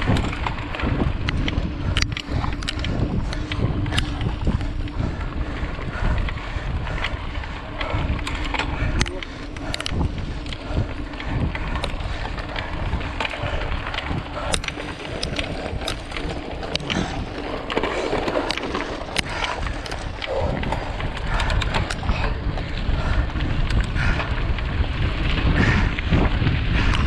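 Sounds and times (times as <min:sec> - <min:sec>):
bike rattling over bumps: 0:00.0 - 0:27.0
bike tyre noise: 0:00.0 - 0:27.0
wind buffeting microphone: 0:00.0 - 0:27.0.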